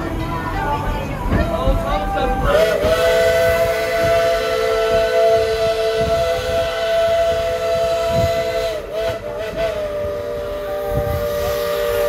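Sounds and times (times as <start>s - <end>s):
steam locomotive chime whistle: 2.0s - 12.0s.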